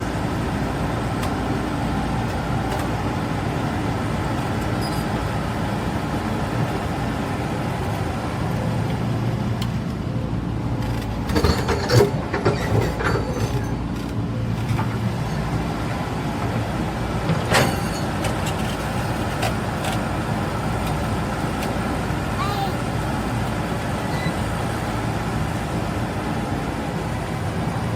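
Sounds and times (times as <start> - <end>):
excavator diesel engine: 0.0 - 27.9.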